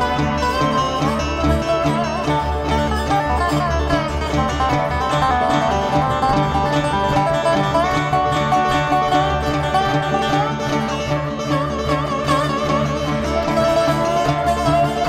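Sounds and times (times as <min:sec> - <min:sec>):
bending sustained melody notes: 0:00.0 - 0:15.0
plucked string instruments: 0:00.0 - 0:15.0
pulsing bass line: 0:00.0 - 0:15.0.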